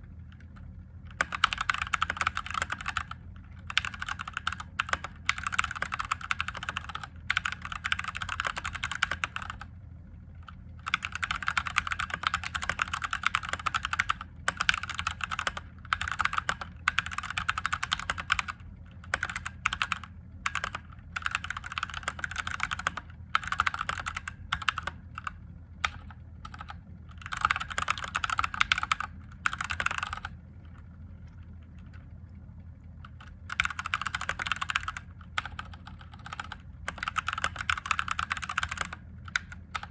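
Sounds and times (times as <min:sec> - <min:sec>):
mechanical keyboard typing: 0:00.3 - 0:09.7, 0:10.8 - 0:30.4, 0:33.1 - 0:39.9.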